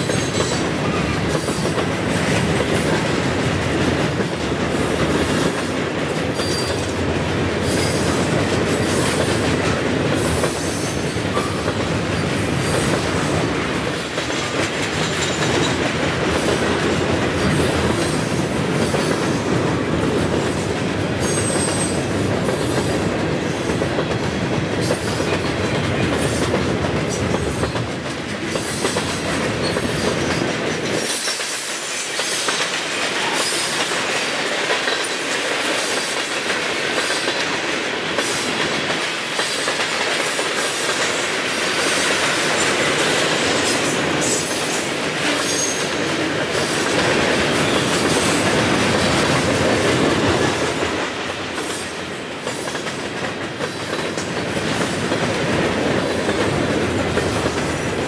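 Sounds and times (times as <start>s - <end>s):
freight train rumbling: 0.0s - 58.0s
wheels clacking over rail joints: 0.0s - 58.0s.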